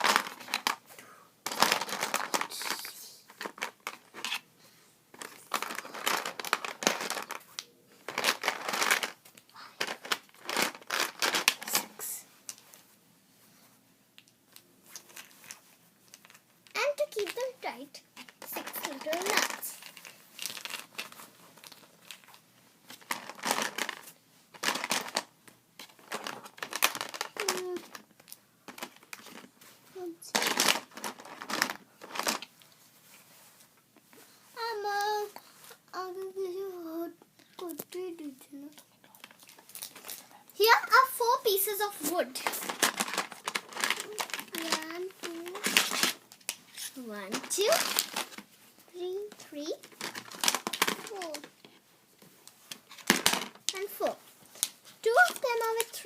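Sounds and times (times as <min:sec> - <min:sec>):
plastic crinkling and clicking: 0:00.0 - 0:00.8, 0:01.4 - 0:04.4, 0:05.1 - 0:11.9, 0:14.2 - 0:29.7, 0:30.3 - 0:32.8, 0:38.7 - 0:56.0.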